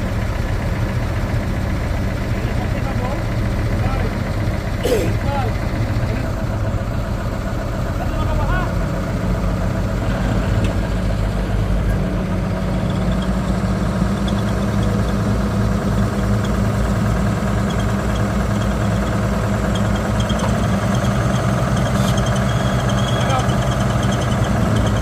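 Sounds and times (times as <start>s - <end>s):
diesel engine running steadily: 0.0s - 25.0s.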